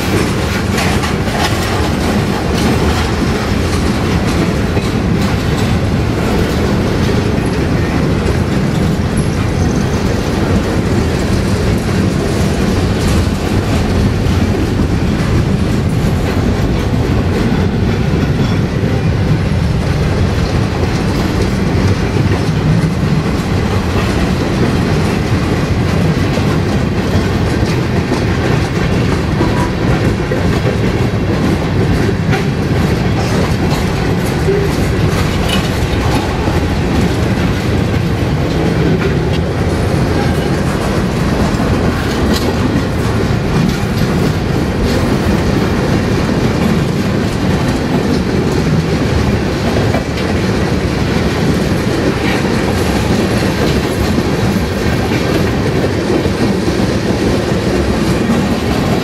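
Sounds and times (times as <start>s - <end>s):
freight cars rumbling over rails: 0.0s - 59.0s.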